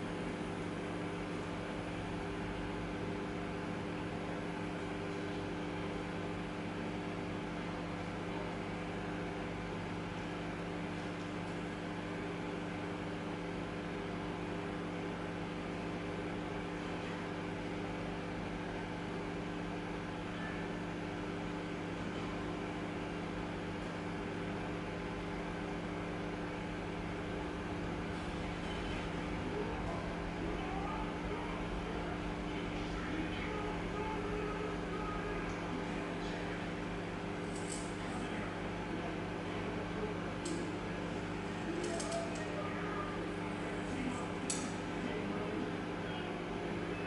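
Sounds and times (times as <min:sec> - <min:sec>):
microwave oven humming: 0:00.0 - 0:47.0.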